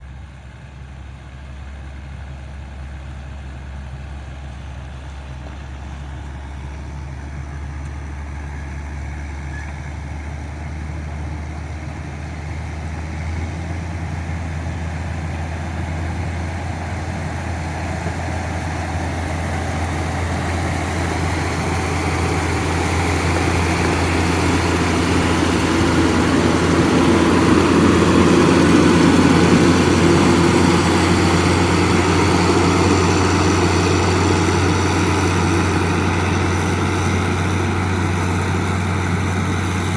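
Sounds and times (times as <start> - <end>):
heavy engine humming: 0.0 - 39.9.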